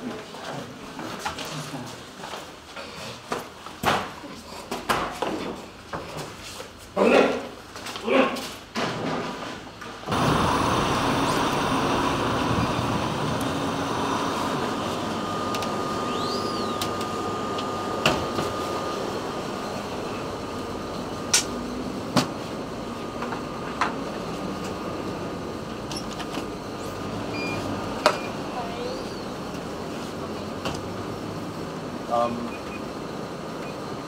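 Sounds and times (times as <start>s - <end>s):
rushing shop ambience: 6.0s - 34.0s.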